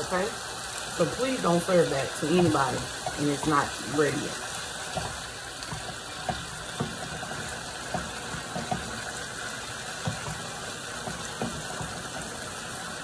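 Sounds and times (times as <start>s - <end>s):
chicken sizzling in oil: 0.0s - 13.0s
wooden spoon knocking on pan: 2.4s - 13.0s.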